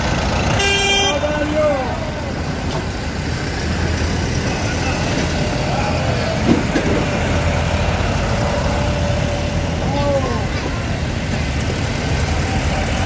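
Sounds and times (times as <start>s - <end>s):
tractor engines rumbling: 0.0s - 13.0s.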